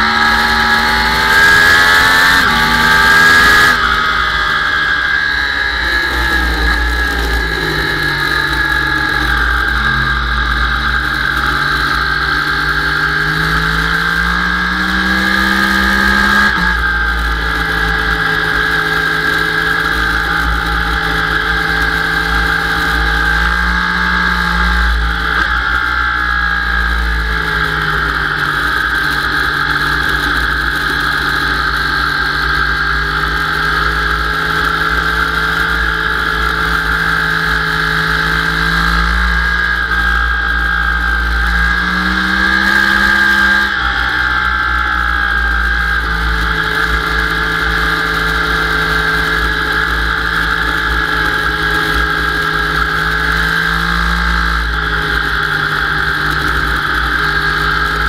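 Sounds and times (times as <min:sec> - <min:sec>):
sport bike engine at high revs: 0:00.0 - 0:58.0.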